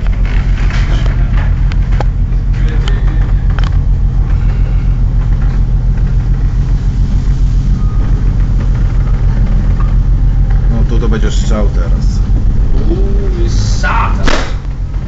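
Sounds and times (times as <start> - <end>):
ship engine throbbing drone: 0.0 - 15.0.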